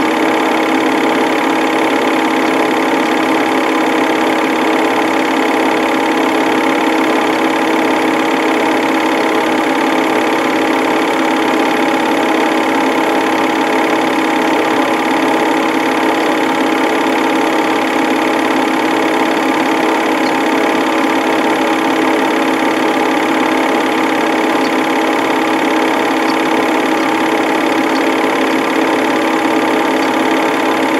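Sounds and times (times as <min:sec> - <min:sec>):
film projector humming and whirring: 0:00.0 - 0:30.9.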